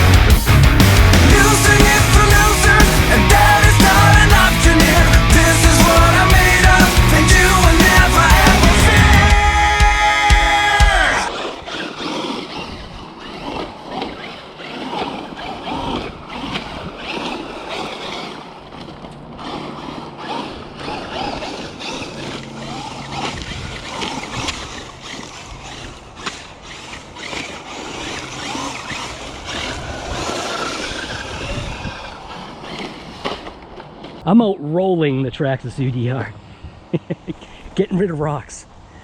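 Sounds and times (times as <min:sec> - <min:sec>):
electric motor whining: 0:00.0 - 0:34.2
tyres on gravel: 0:00.0 - 0:38.8.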